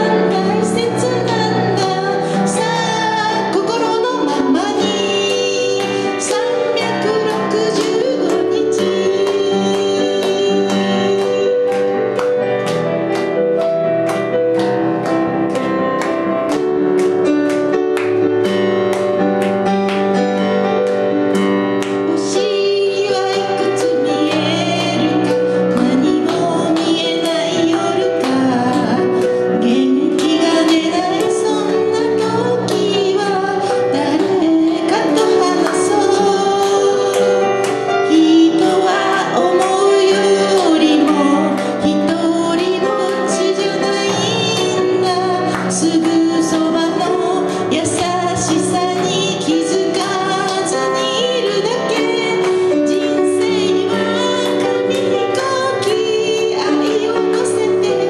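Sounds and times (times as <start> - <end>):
woman singing: 0.0 - 12.6, 21.8 - 58.0
pop ballad on digital piano: 0.0 - 58.0.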